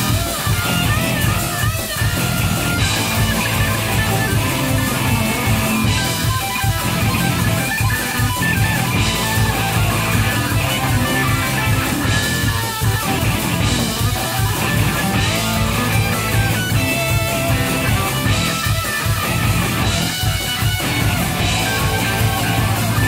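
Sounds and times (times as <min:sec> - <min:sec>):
drum kit: 0:00.0 - 0:23.0
electric bass: 0:00.0 - 0:23.0
electric guitars: 0:00.0 - 0:23.0.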